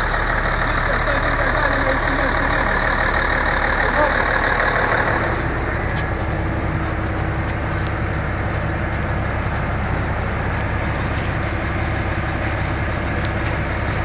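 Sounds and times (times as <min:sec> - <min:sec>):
heavy engine humming: 0:00.0 - 0:14.0.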